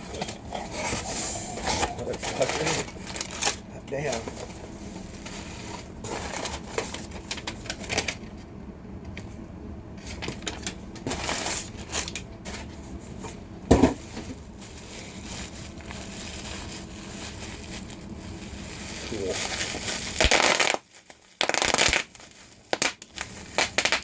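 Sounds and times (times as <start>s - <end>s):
packaging crinkling and tearing: 0.1s - 8.3s, 10.1s - 12.3s, 14.0s - 24.0s.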